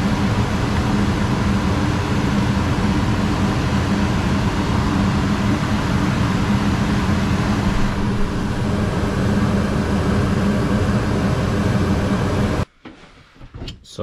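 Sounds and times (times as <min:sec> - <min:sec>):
gas furnace rush of air: 0:00.0 - 0:12.7.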